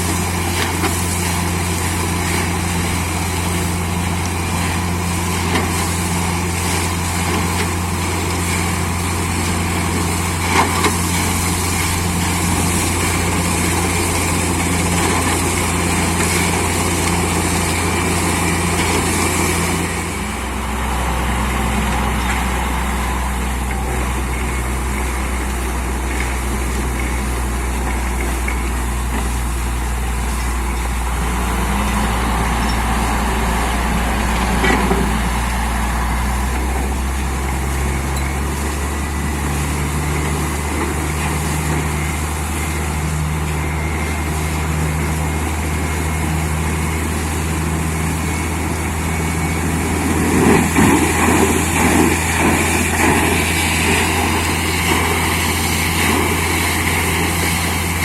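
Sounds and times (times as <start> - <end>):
drilling rig engine running: 0.0 - 58.0.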